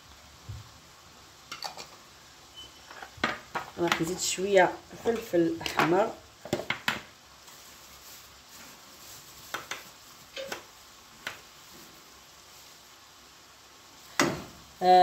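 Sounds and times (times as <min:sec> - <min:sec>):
meat and onions sizzling in a pan: 0:00.0 - 0:15.0.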